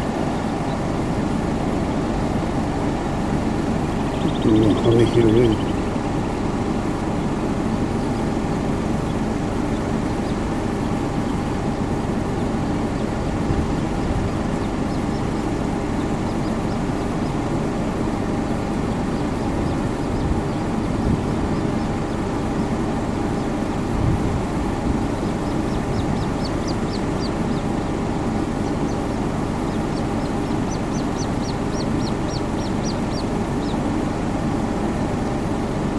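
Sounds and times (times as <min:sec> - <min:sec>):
grebes peeping: 0:00.0 - 0:35.9
low background rumble: 0:00.0 - 0:35.9.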